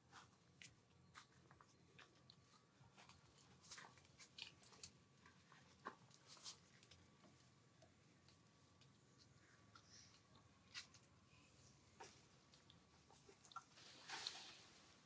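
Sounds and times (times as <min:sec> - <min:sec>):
faint small clicks and rustles: 0:00.0 - 0:15.0.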